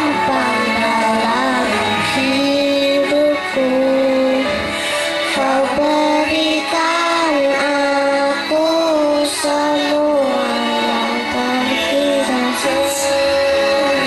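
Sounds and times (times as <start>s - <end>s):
children singing: 0.0s - 4.5s, 5.2s - 14.0s
accompanying music: 0.0s - 14.0s.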